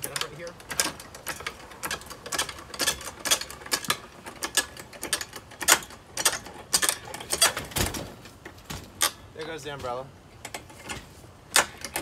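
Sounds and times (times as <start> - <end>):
floor jack clicking and clanking: 0.0 - 9.2, 10.4 - 12.0.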